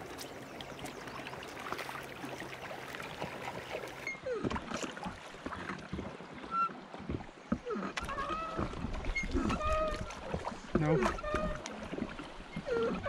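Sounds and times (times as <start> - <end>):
moving river water: 0.0 - 13.0
oars knocking and creaking: 0.0 - 13.0.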